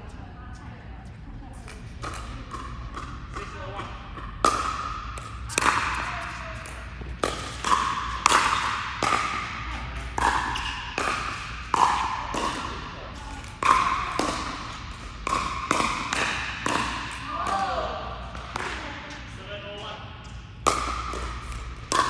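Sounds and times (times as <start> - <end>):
paddles hitting plastic ball: 1.7 - 18.9, 20.6 - 22.0.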